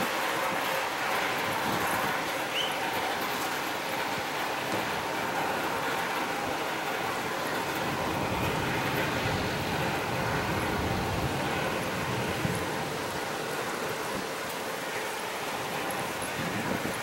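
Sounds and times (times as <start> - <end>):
ocean surf hiss: 0.0 - 17.0
wind buffeting microphone: 0.0 - 17.0.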